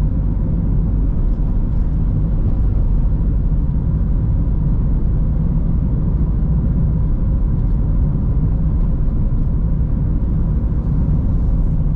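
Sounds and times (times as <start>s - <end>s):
car tyres and engine rumble: 0.0s - 11.9s.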